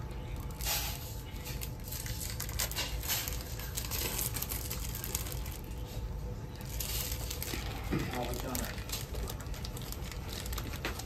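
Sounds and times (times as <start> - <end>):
food crackling in a pan: 0.3 - 11.0
plastic bag crinkling: 0.3 - 11.0.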